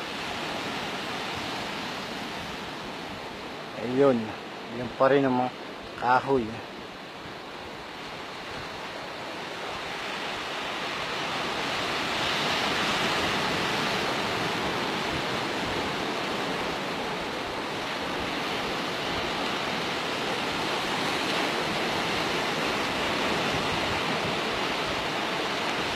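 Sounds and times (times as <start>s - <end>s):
sea waves washing in: 0.0s - 25.9s.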